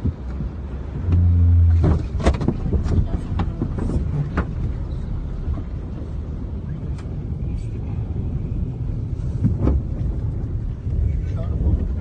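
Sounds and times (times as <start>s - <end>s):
floodwater rushing around car: 0.0s - 12.0s
low hum: 0.3s - 12.0s.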